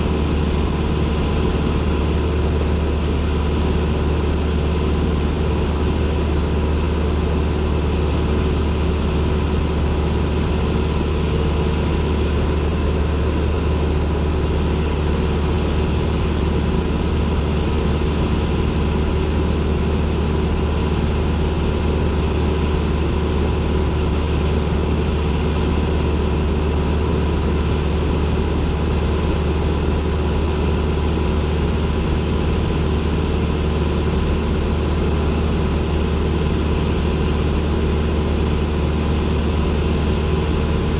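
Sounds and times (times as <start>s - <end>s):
airplane engine and propeller drone: 0.0s - 40.9s.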